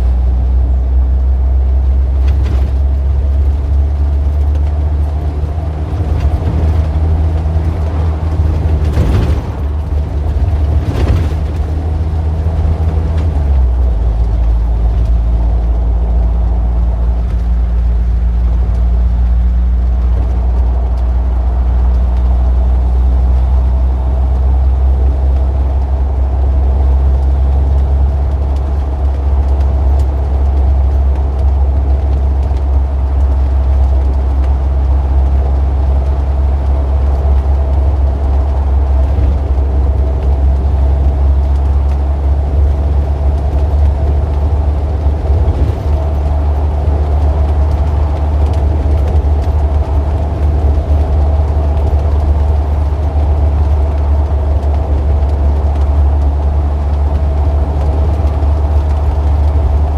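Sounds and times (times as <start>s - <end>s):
loud low engine hum: 0.0s - 59.9s.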